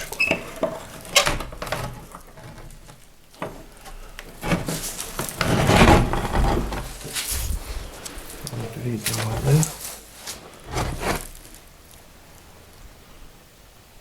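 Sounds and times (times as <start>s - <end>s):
rough rustling scrape: 0.0s - 12.1s.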